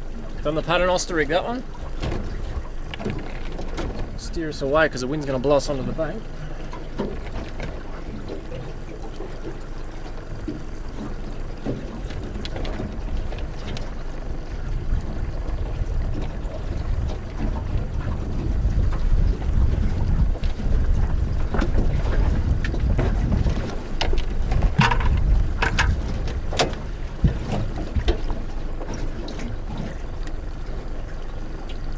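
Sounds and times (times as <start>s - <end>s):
water splashing against hull: 0.0s - 31.9s
wind rumbling on microphone: 0.0s - 31.9s.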